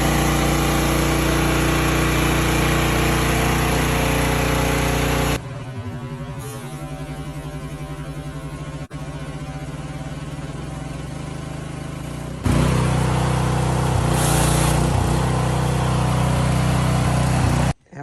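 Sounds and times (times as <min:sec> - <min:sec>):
pressure washer engine running: 0:00.0 - 0:17.8.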